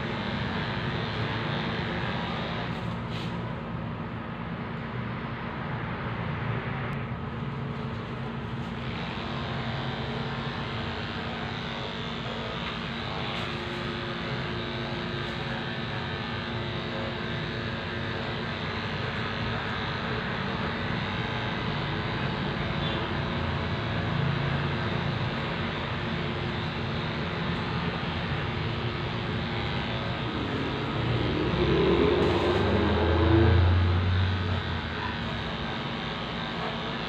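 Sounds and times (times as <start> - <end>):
electric clippers buzzing: 0.0 - 3.2, 7.8 - 37.0.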